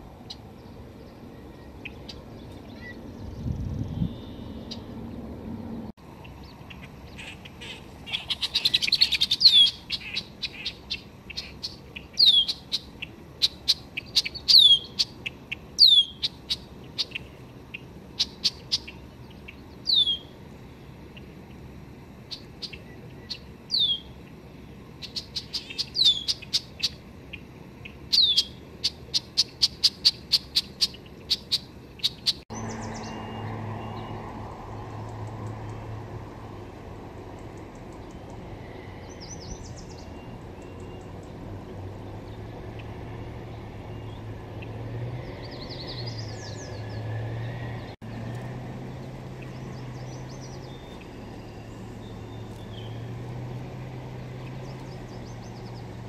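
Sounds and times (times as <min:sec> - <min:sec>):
small birds singing: 0:00.0 - 0:05.3, 0:06.0 - 0:56.0
steady low hum: 0:00.0 - 0:56.0.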